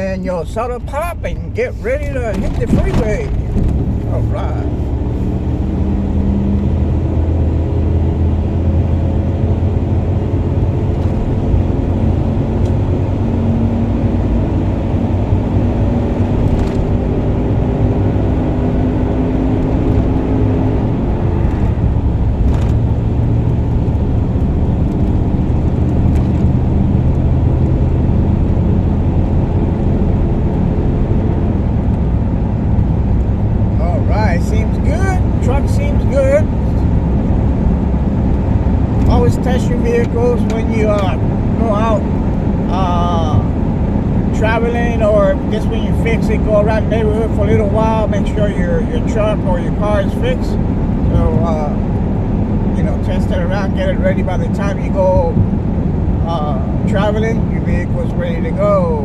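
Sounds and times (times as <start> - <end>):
road noise: 0.0 - 59.0
truck engine rumble: 0.0 - 59.0.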